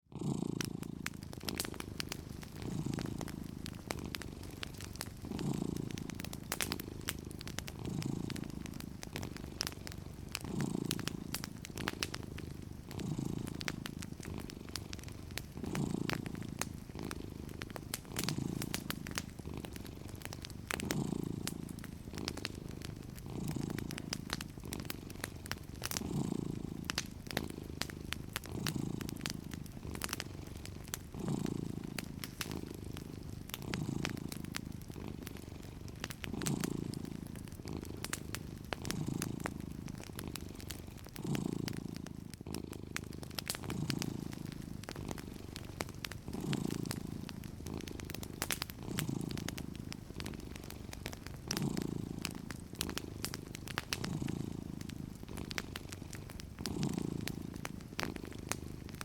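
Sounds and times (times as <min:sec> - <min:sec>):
cat purring: 0:00.0 - 0:59.0
wood fire crackling: 0:00.2 - 0:59.0.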